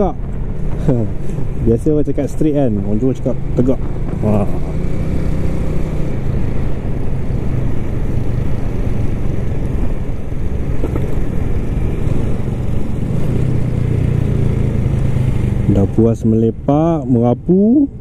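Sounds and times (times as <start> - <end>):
motorcycle engine drone: 0.0 - 18.0
wind and road noise: 0.0 - 18.0.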